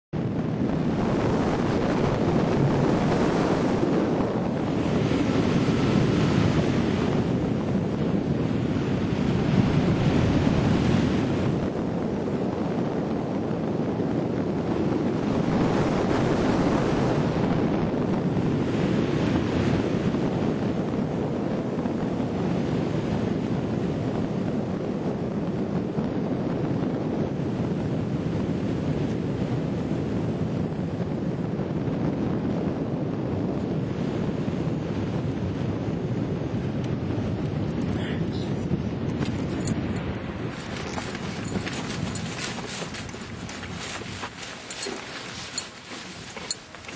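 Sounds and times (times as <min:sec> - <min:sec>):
wind rushing over microphone: 0:00.1 - 0:46.9.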